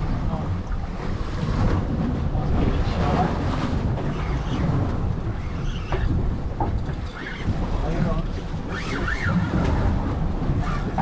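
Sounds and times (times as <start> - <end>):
sea against hull: 0.0 - 11.0
wind buffeting microphone: 0.0 - 11.0.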